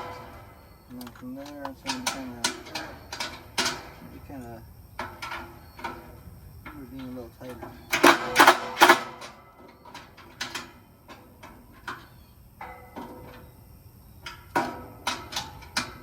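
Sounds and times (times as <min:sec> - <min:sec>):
hand tools clanking on metal: 0:00.0 - 0:16.0.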